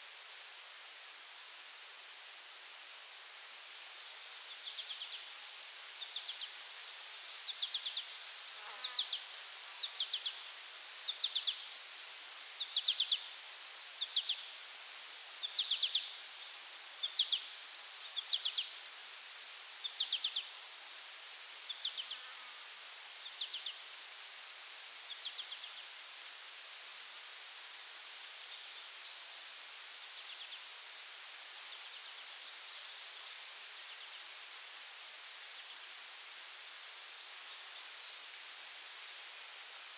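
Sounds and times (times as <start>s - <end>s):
insects buzzing high-pitched: 1.8s - 39.9s.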